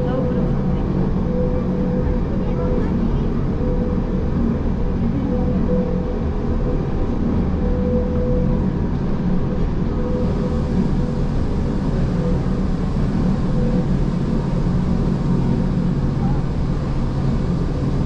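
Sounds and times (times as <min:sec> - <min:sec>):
electric train rumbling: 0:00.0 - 0:18.0
thin train whine: 0:00.0 - 0:18.0.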